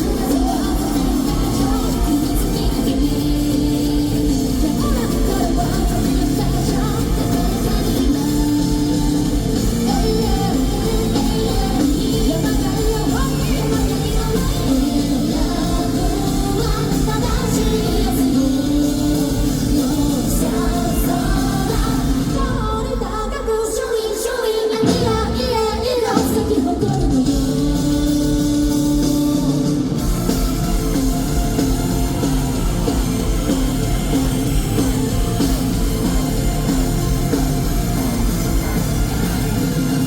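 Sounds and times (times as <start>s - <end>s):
bass guitar: 0.0s - 22.7s, 26.8s - 40.0s
electric guitar: 0.0s - 23.1s, 24.8s - 40.0s
keyboard: 0.0s - 23.6s, 24.8s - 40.0s
drums: 0.0s - 40.0s
woman singing lead vocal: 0.0s - 40.0s.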